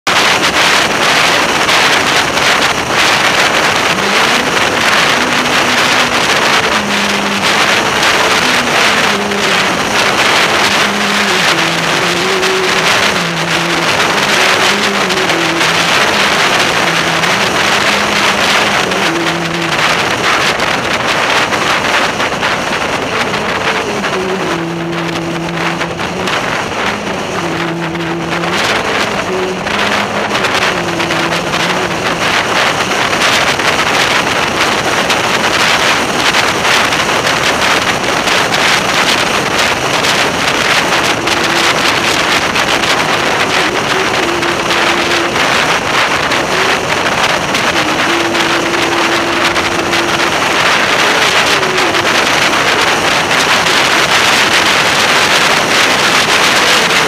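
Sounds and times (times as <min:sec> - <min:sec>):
motorcycle engine: 0:00.0 - 0:57.0
wind rushing over microphone: 0:00.0 - 0:57.0.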